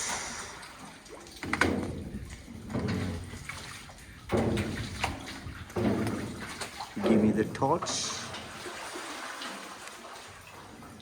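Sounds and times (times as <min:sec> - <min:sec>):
water sloshing around boat: 0:00.0 - 0:11.0.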